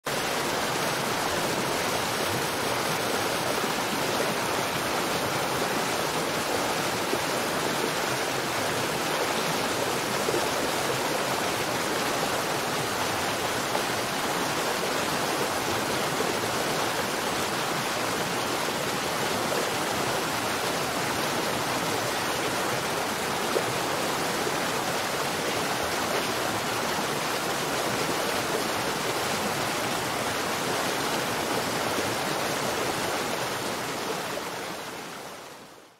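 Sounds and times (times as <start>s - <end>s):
water rushing over rocks: 0.1s - 35.4s.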